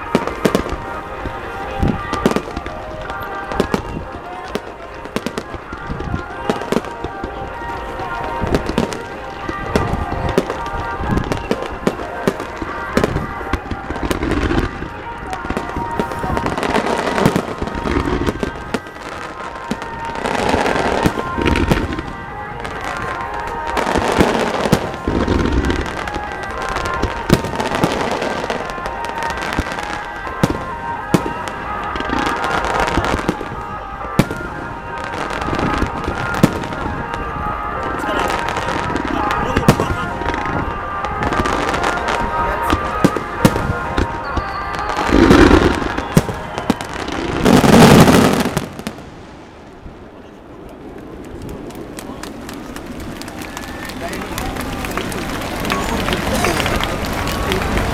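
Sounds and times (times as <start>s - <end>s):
fireworks bangs and booms: 0.0s - 57.9s
fireworks crackle: 0.0s - 57.9s.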